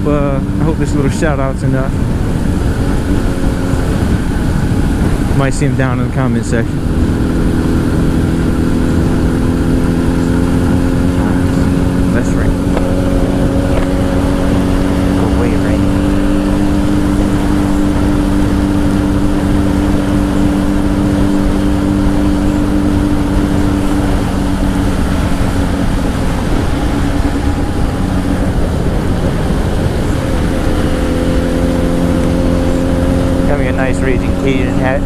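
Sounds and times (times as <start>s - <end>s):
motorcycle engine running: 0.0s - 35.0s
wind noise: 0.0s - 35.0s.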